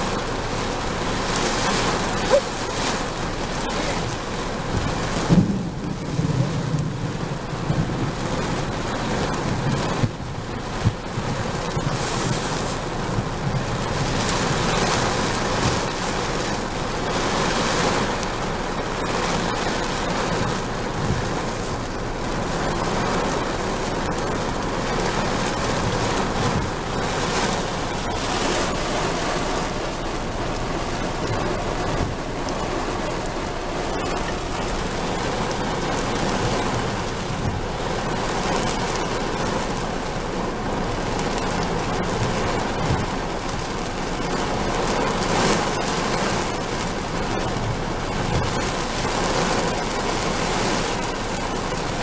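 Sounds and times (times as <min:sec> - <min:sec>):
heavy rain on car windshield: 0:00.0 - 0:52.0.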